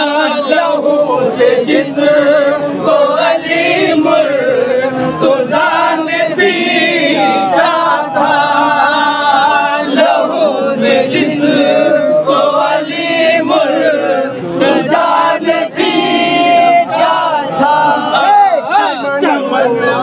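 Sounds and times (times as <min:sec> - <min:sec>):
men chanting a lament: 0:00.0 - 0:20.0.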